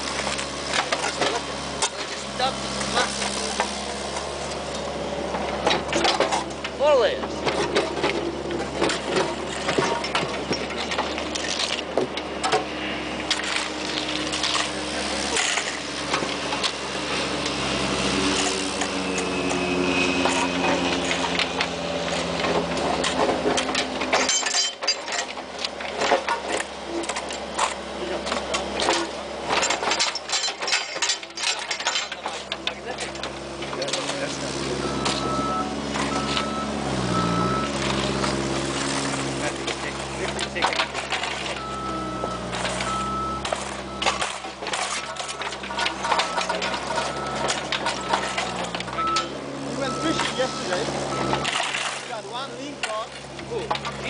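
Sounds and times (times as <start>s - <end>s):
bucket clanking and scraping soil: 0.0s - 54.0s
diesel engine running: 0.0s - 54.0s.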